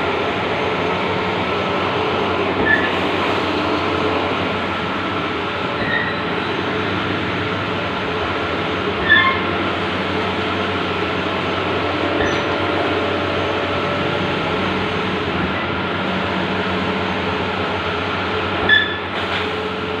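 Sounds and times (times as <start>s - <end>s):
printer mechanical hum and whir: 0.0s - 20.0s.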